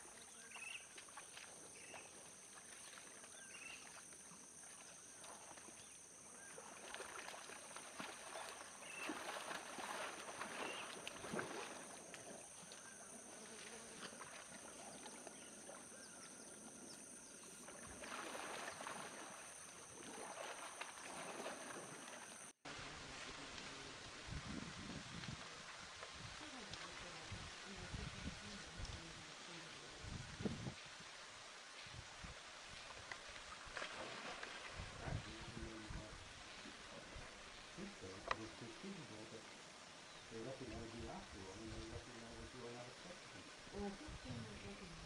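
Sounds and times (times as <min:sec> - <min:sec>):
shallow water splashing: 0:00.0 - 0:24.2, 0:25.0 - 0:45.0.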